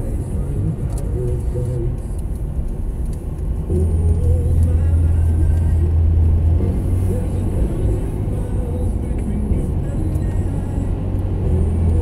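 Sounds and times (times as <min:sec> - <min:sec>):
car engine and road noise: 0:00.0 - 0:12.0
faint music in car: 0:00.0 - 0:12.0.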